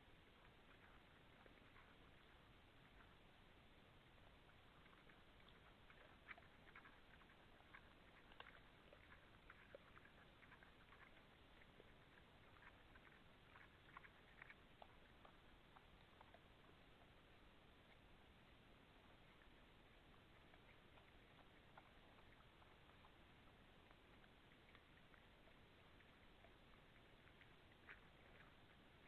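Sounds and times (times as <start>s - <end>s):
animals feeding on the ground: 0.0s - 29.0s.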